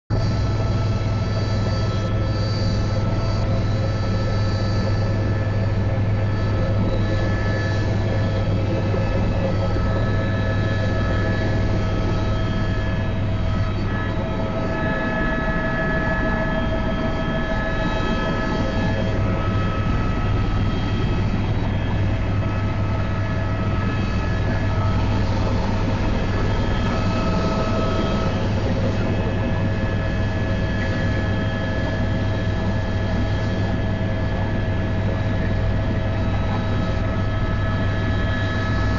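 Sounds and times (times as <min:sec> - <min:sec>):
helicopter rotor and engine drone: 0:00.1 - 0:38.9
high-pitched steady tones: 0:00.2 - 0:38.9.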